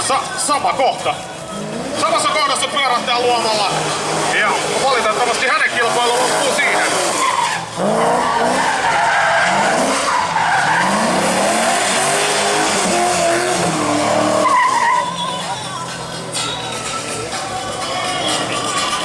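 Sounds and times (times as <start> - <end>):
tyres screeching: 0.2 - 19.0
car engine revving: 1.4 - 19.0.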